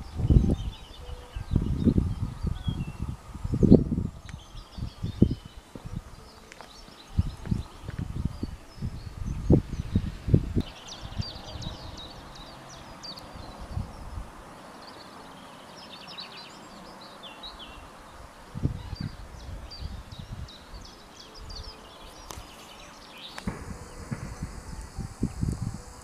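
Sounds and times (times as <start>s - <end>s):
songbirds singing: 0.0s - 26.0s
wind rumbling on microphone: 0.0s - 26.0s.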